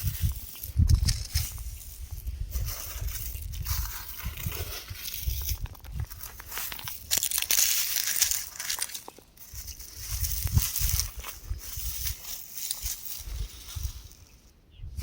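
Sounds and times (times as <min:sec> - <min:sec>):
rock crunching and crackling: 0:00.0 - 0:14.5.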